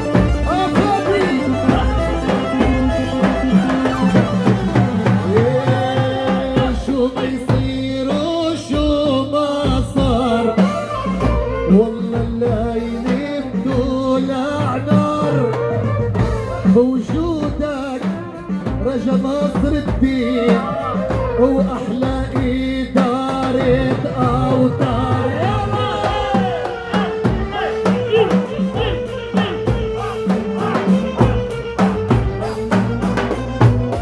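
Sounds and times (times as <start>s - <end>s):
man singing into a microphone: 0.0s - 31.7s
amplified band music: 0.0s - 34.0s
goblet drum dance rhythm: 0.0s - 34.0s.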